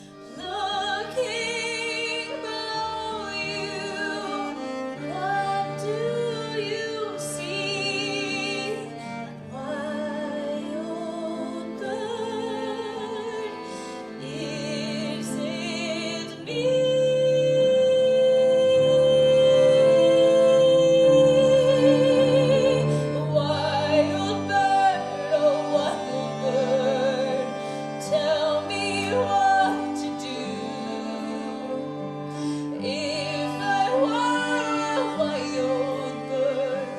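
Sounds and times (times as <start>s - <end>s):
instrumental accompaniment: 0.0s - 36.9s
woman singing with vibrato: 0.0s - 36.9s.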